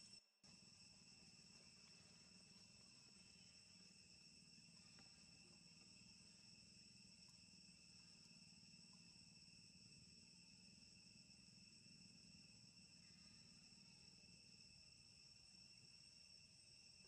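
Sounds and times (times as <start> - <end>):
insect chorus trilling: 0.0 - 17.0.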